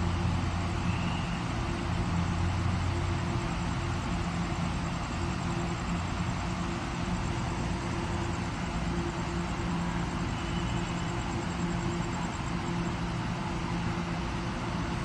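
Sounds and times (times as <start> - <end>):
constant rushing noise: 0.0 - 15.0
train low hum: 0.0 - 15.0.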